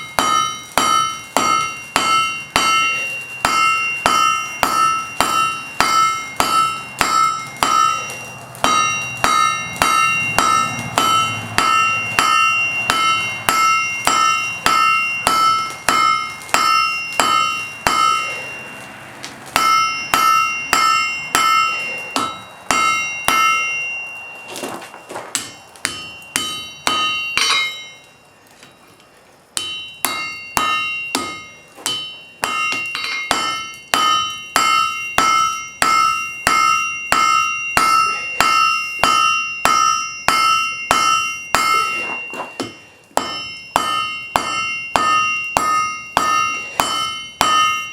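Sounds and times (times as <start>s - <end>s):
hammer ringing on anvil: 0.0s - 47.9s.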